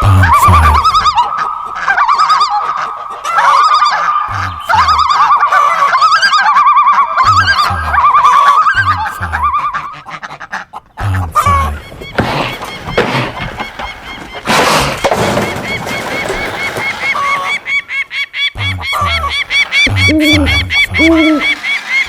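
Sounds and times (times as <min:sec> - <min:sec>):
goose-like honking calls: 0:00.8 - 0:22.0.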